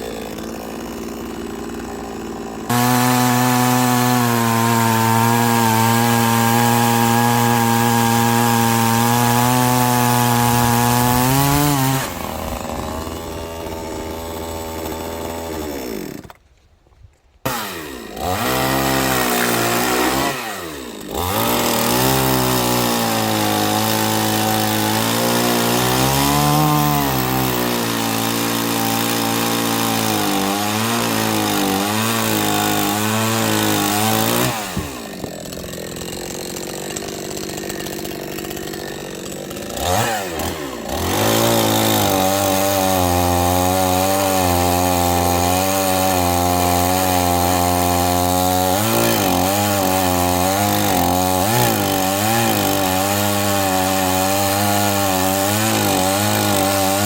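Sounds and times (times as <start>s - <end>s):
chainsaw cutting wood: 0.0s - 16.8s, 17.4s - 57.0s.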